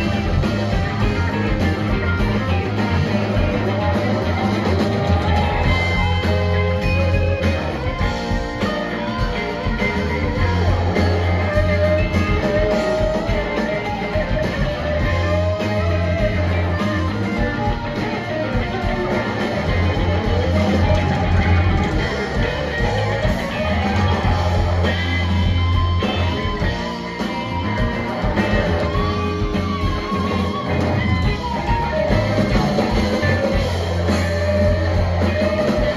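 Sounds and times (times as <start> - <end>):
electric guitar bending lead lines: 0.0 - 35.9
live rock band playing: 0.0 - 35.9.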